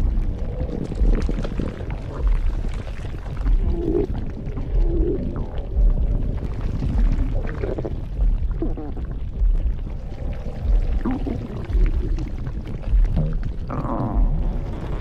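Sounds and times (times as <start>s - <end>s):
low thuds: 0.0s - 15.0s
stomach gurgling: 0.0s - 15.0s.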